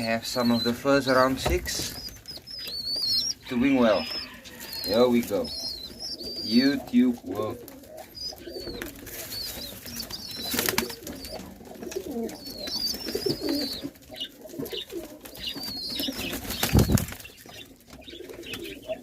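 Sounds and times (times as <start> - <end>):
high chirping calls: 0.0 - 19.0
pigeons cooing: 0.0 - 19.0.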